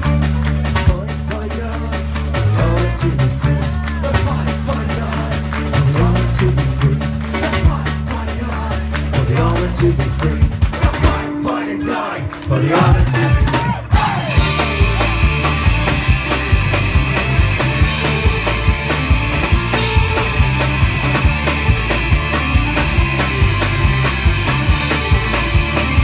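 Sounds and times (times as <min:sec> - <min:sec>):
driving drum beat: 0:00.0 - 0:26.0
folk-punk band playing: 0:00.0 - 0:26.0.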